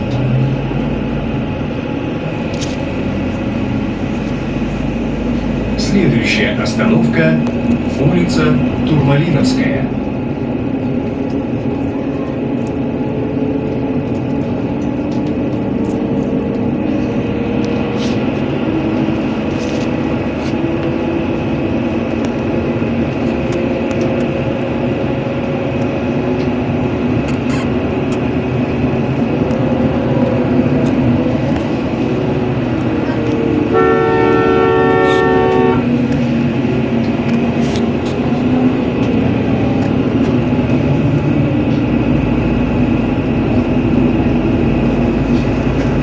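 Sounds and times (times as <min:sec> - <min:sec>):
bus engine and road noise: 0:00.0 - 0:46.0.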